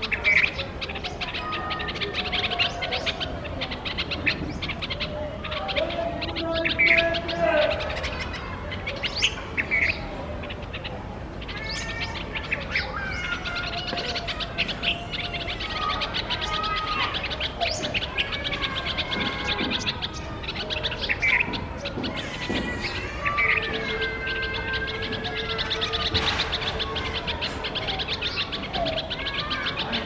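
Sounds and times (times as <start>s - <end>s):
songbirds chirping and chattering: 0.0s - 30.0s.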